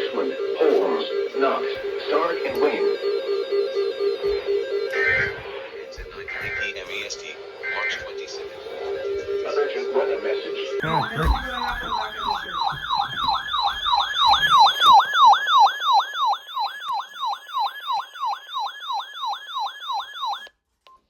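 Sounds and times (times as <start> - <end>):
electronic yelp siren: 0.0 - 20.5.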